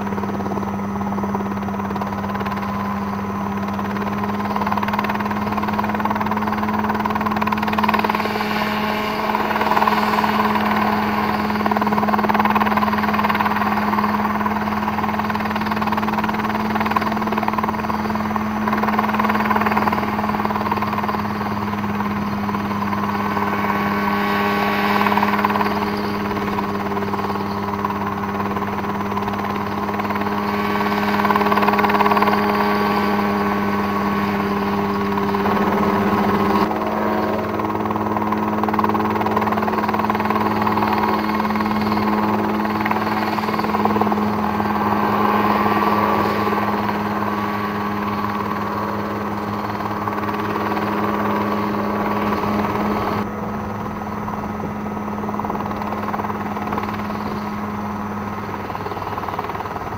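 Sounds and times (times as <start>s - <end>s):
helicopter engine and rotor hum: 0.0s - 59.9s.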